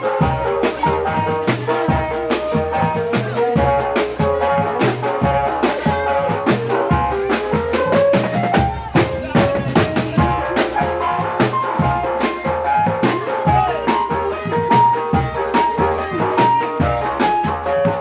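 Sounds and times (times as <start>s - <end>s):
drum beat: 0.0s - 18.0s
live band music: 0.0s - 18.0s.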